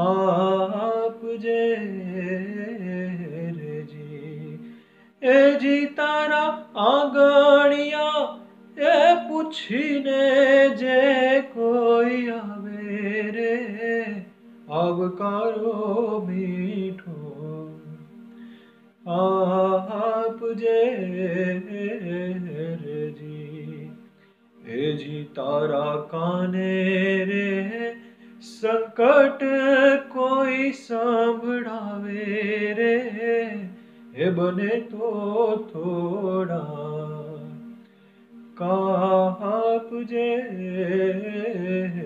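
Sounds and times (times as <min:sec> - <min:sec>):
man singing devotional folk song: 0:00.0 - 0:18.2, 0:19.0 - 0:37.7, 0:38.6 - 0:42.0
harmonium holding notes: 0:00.0 - 0:42.0.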